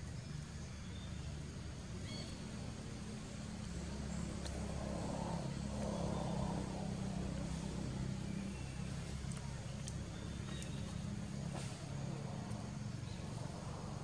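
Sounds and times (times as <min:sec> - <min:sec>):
low motor rumble: 0:00.0 - 0:14.0.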